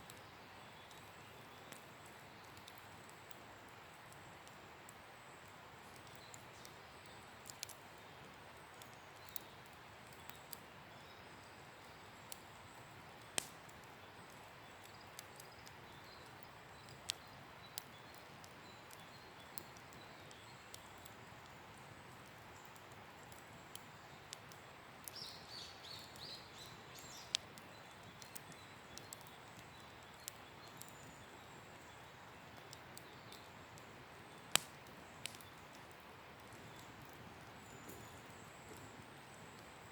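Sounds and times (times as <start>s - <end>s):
campfire crackling and popping: 0.0s - 39.9s
faint steady hiss: 0.0s - 39.9s.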